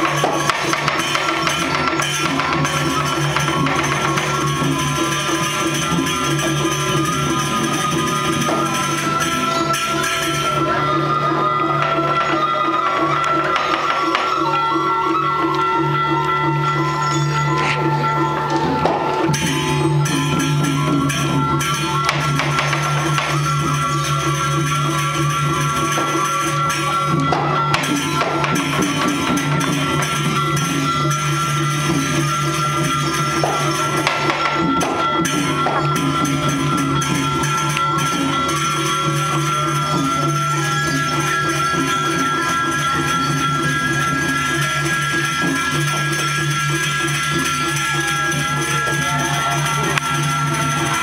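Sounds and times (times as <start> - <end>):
gamelan ensemble playing: 0.0 - 51.0.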